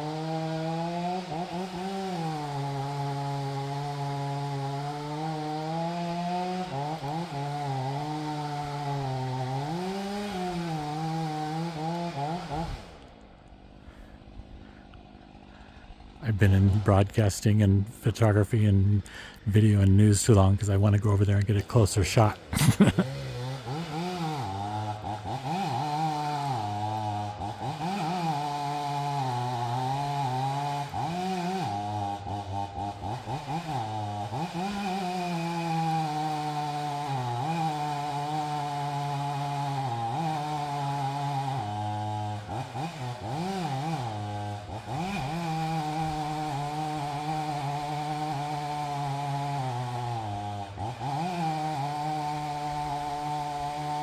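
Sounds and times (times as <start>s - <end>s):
chainsaw cutting tree: 0.0s - 54.0s.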